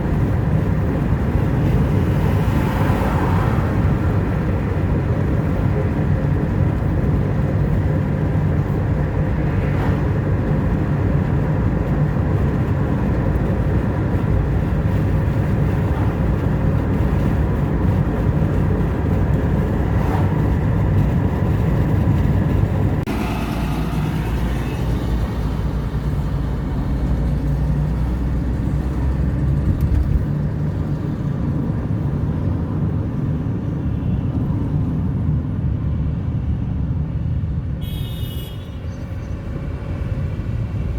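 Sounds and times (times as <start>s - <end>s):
moving vehicle rumble: 0.0s - 40.9s.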